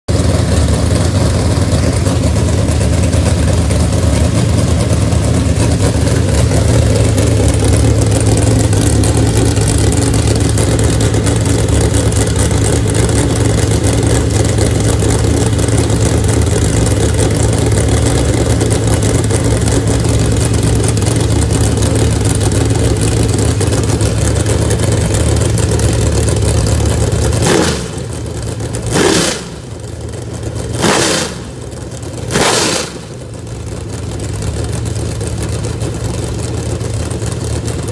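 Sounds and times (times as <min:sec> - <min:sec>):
engine fast idle and rev: 0:00.0 - 0:37.9.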